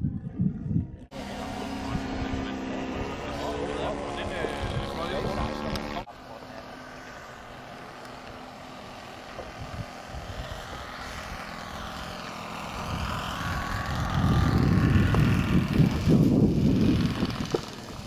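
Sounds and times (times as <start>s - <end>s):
model airplane motor flying by: 0.0s - 18.0s.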